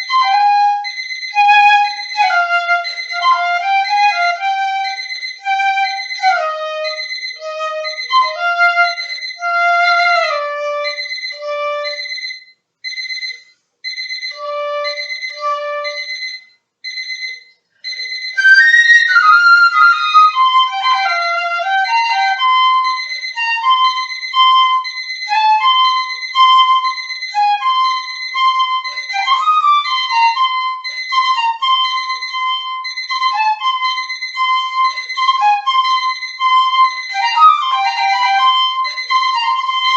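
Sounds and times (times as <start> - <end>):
piccolo melody: 0.0 - 39.9.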